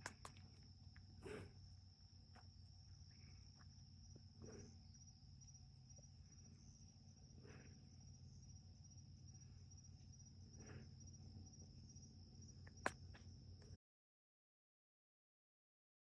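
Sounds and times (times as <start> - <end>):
crickets trilling: 0.0 - 13.8.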